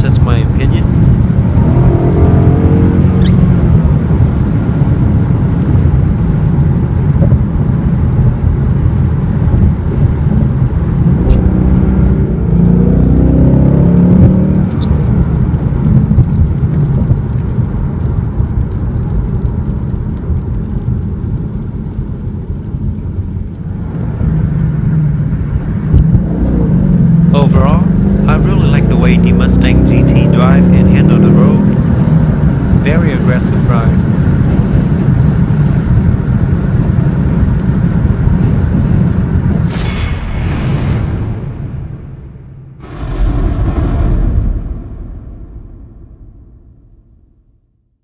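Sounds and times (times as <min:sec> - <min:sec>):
car engine exhaust rumble: 0:00.0 - 0:40.4.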